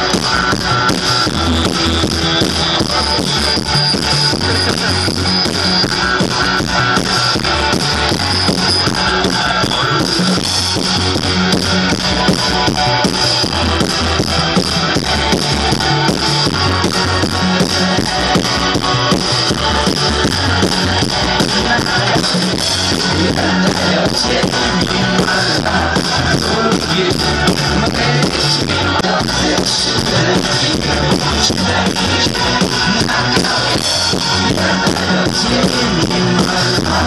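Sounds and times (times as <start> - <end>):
drum kit beat: 0.0 - 37.0
electric guitars: 0.0 - 37.0.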